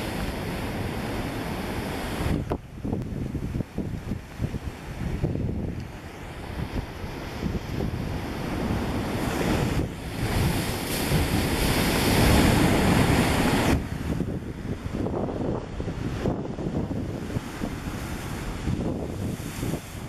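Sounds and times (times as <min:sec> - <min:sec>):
ocean surf crashing on rocks: 0:00.0 - 0:20.0
wind buffeting microphone: 0:00.0 - 0:20.0.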